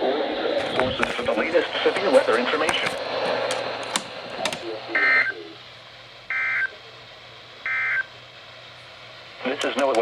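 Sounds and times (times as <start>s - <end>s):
crackling radio static: 0.0s - 10.0s.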